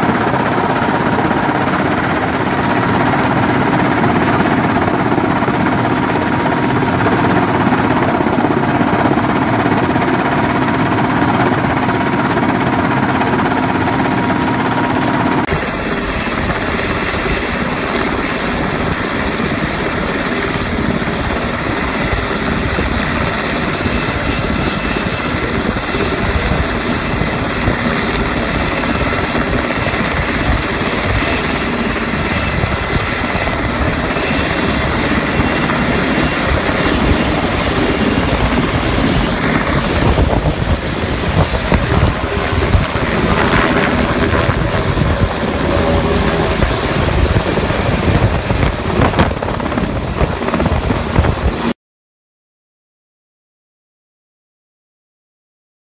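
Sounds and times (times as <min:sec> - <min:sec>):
helicopter drone inside cabin: 0:00.0 - 0:51.7
helicopter rotor blade beat: 0:00.0 - 0:51.7.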